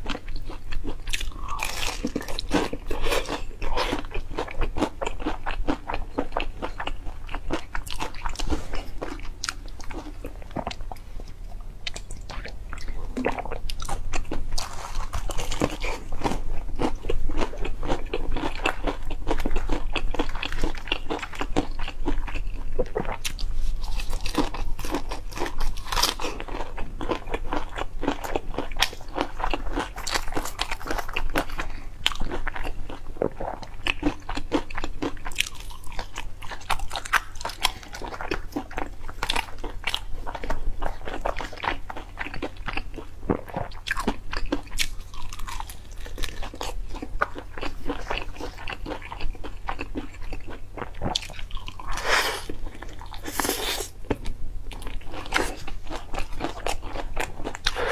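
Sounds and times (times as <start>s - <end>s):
crunching fried chicken: 0.0s - 10.7s, 11.9s - 57.9s.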